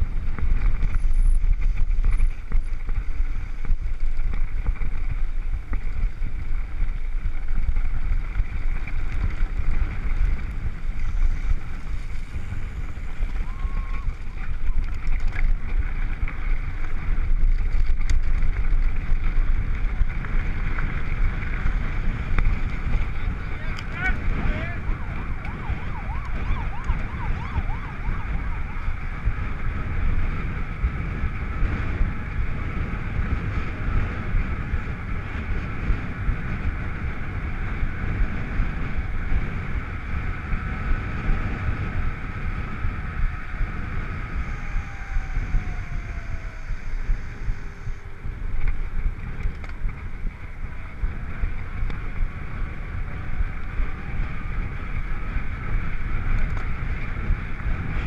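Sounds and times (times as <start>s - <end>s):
bike tyres rolling on tarmac: 0.0s - 58.0s
wind buffeting microphone: 0.0s - 58.0s.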